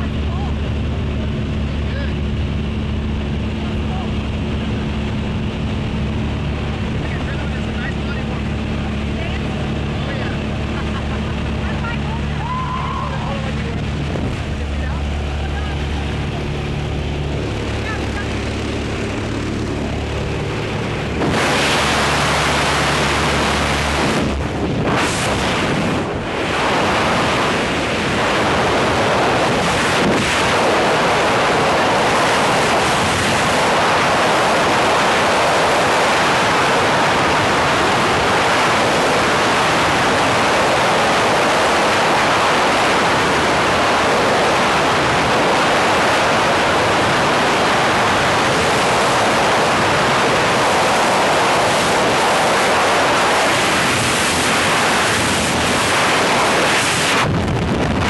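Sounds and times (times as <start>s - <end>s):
propeller plane engine droning: 0.0s - 58.0s
wind rushing over microphone: 0.0s - 58.0s.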